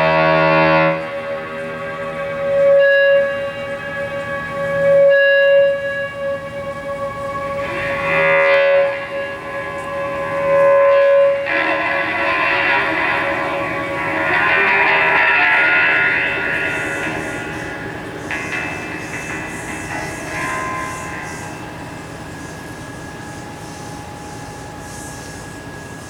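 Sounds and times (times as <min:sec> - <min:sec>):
sustained electric guitar note: 0:00.0 - 0:23.7
strummed guitar: 0:00.0 - 0:26.0.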